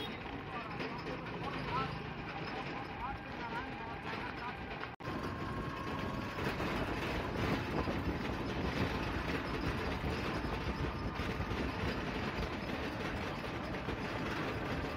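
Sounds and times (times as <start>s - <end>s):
vehicle rumbling: 0.0s - 14.9s.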